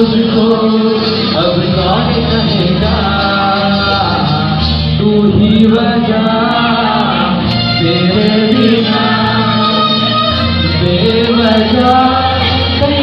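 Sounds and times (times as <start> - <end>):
instrumental backing music: 0.0 - 13.0
man singing into a microphone: 0.0 - 13.0.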